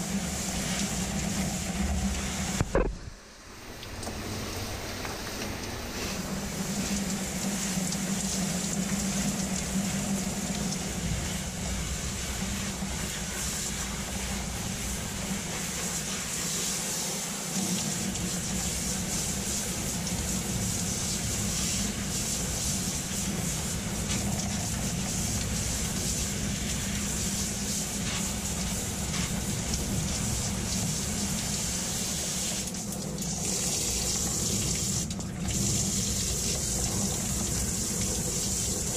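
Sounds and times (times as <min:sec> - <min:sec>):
shower spray hissing: 0:00.0 - 0:02.6, 0:03.7 - 0:38.9.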